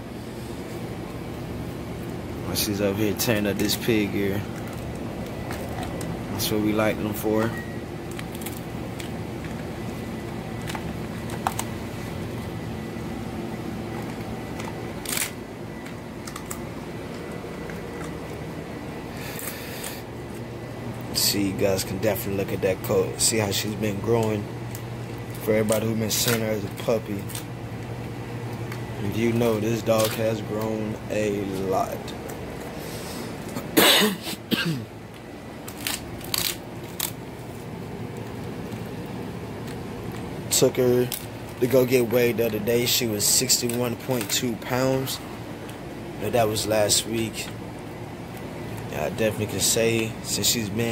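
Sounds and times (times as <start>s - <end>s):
steady low hum: 0.0s - 50.9s
puppy chewing with sharp crunches: 3.0s - 21.2s, 21.8s - 33.8s, 35.0s - 44.6s, 45.3s - 50.4s.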